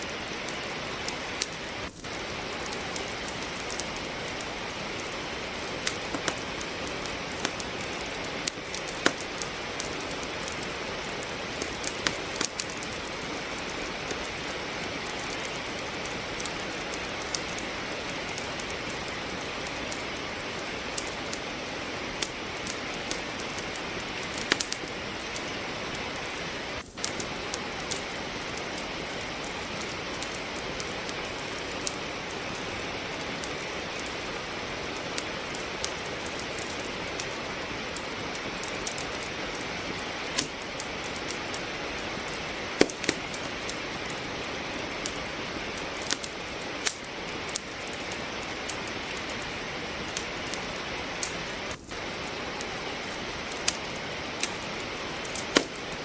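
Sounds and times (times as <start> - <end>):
steady rain hissing: 0.0 - 56.0
wood fire crackling: 0.0 - 56.0.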